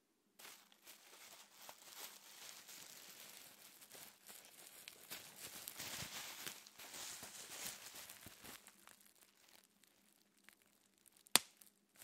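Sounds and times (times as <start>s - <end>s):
bubble wrap crinkling: 0.4s - 12.0s.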